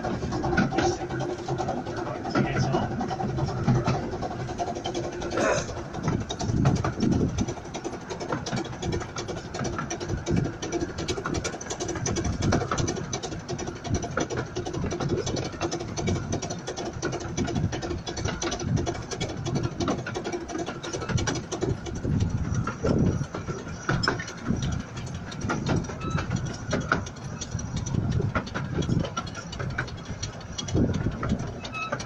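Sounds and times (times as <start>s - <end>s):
carriage wheels rattling on track: 0.0s - 32.0s.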